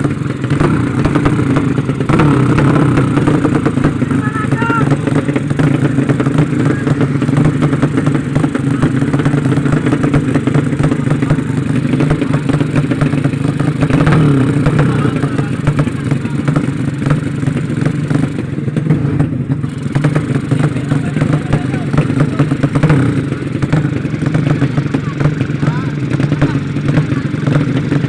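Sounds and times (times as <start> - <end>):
motorcycle engines running: 0.0 - 28.0.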